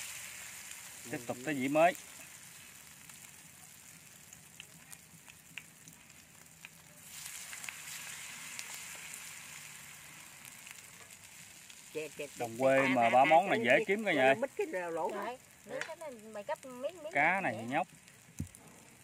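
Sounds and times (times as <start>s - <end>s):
fish frying in oil: 0.0s - 19.0s.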